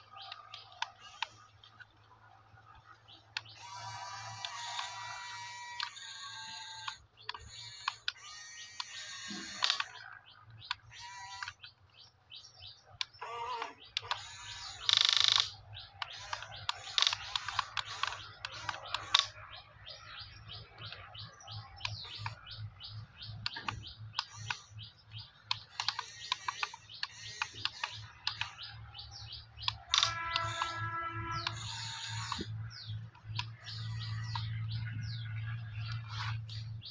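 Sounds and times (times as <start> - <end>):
birds chirping: 0.0 - 36.9
low steady hum: 0.0 - 36.9.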